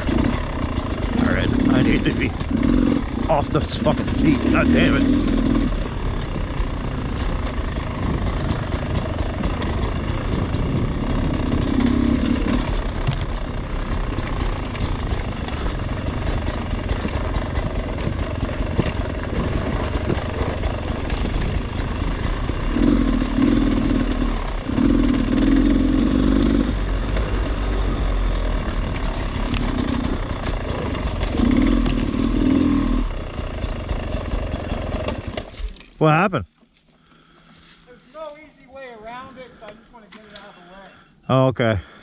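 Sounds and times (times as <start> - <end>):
dirt bike engine revving: 0.0 - 35.7.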